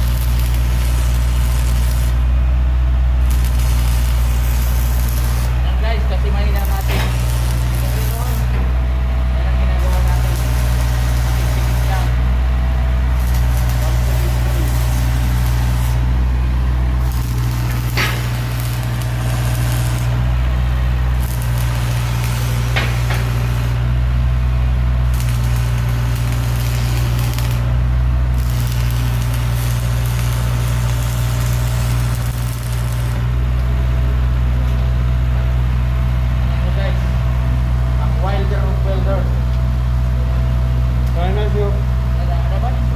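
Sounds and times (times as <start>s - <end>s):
welding arc crackling: 0.0s - 37.1s
low machine hum: 0.0s - 42.9s.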